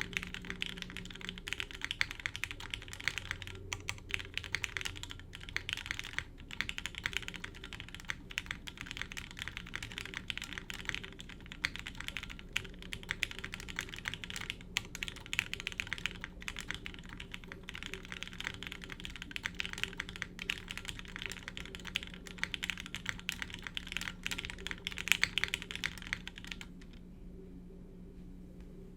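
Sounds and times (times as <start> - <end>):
fast mechanical keyboard typing: 0.0 - 27.0.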